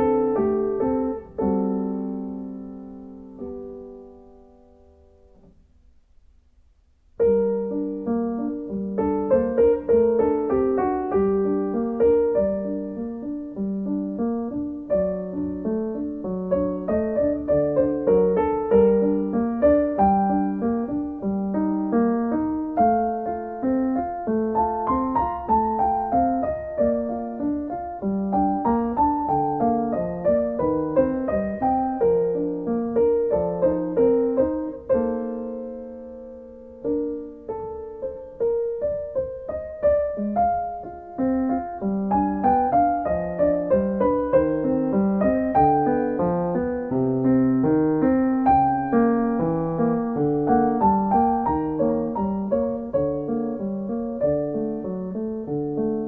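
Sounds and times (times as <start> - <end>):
piano music: 0.0 - 5.8, 7.1 - 56.0.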